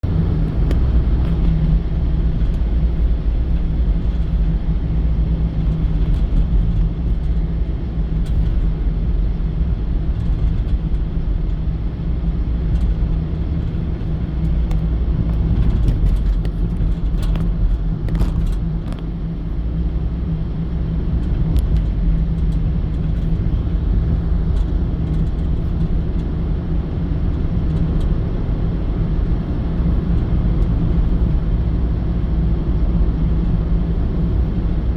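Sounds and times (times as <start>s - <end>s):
car engine and road rumble: 0.0s - 34.9s
constant hum: 0.0s - 34.9s.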